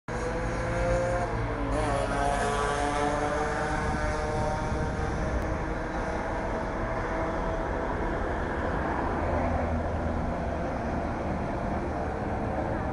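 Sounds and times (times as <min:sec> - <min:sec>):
low city rumble: 0:00.1 - 0:12.9.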